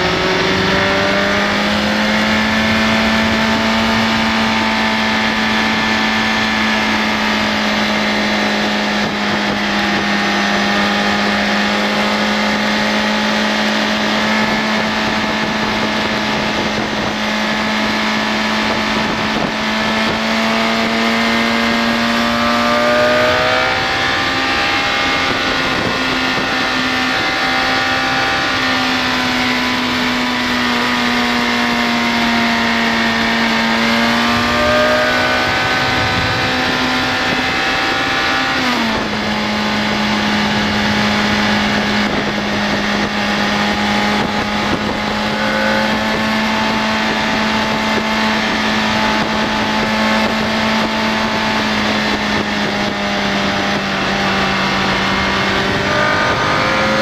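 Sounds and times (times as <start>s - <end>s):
motorcycle engine running hard: 0.0s - 57.0s
wind noise: 0.0s - 57.0s.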